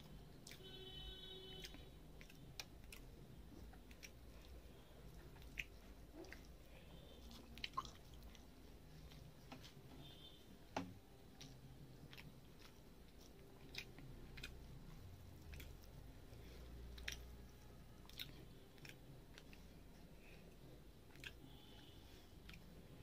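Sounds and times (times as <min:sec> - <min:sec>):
chewing: 0:00.0 - 0:00.8, 0:01.5 - 0:10.2, 0:11.1 - 0:23.0.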